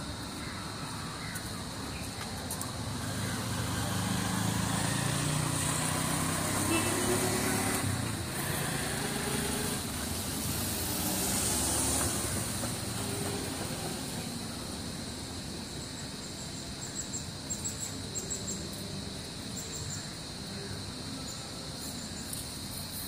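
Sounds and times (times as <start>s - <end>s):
outdoor background hum: 0.0s - 23.0s.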